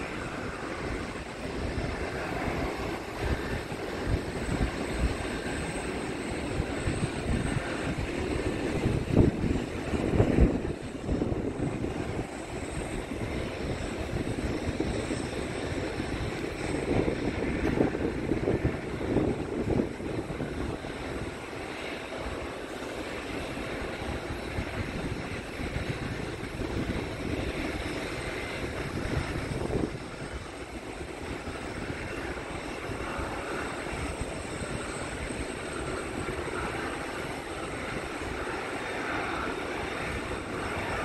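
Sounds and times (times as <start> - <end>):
aircraft engines rushing: 0.0 - 41.0.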